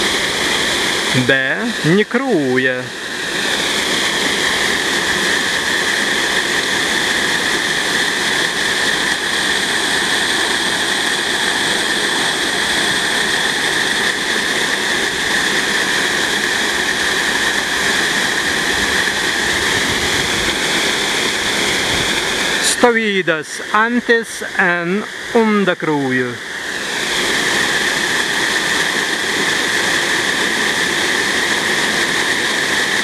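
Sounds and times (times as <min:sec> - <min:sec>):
water rushing over a weir: 0:00.0 - 0:33.0.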